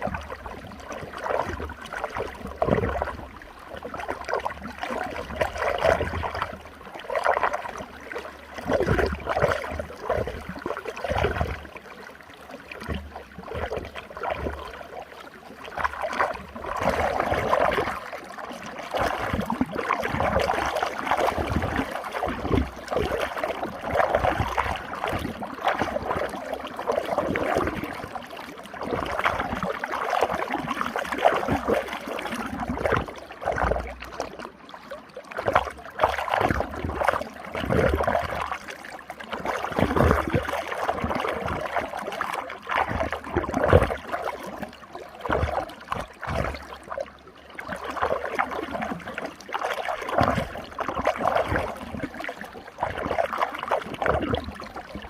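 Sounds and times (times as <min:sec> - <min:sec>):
water gurgling in whirlpool: 0:00.0 - 0:55.0.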